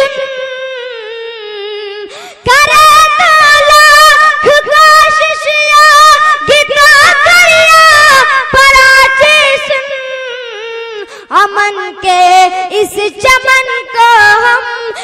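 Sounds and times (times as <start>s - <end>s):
high voice singing wordless melody: 0.0s - 15.0s.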